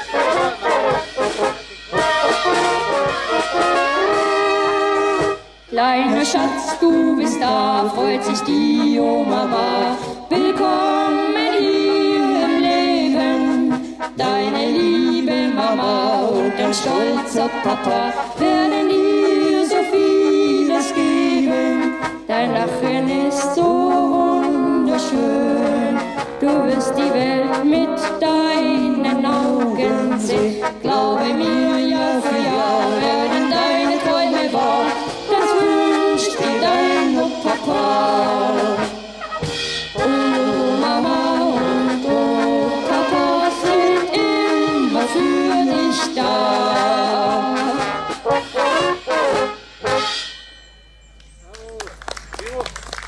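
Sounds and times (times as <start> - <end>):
song with singing and brass: 0.0 - 50.4.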